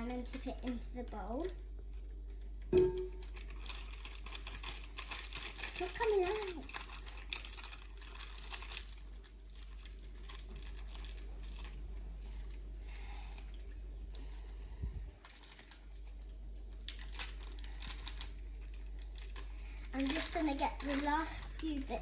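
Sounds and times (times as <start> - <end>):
slime squelching and crackling: 0.0 - 22.0.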